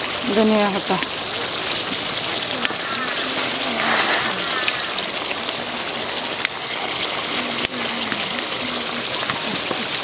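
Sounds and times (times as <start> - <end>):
curry bubbling on the boil: 0.0 - 10.0.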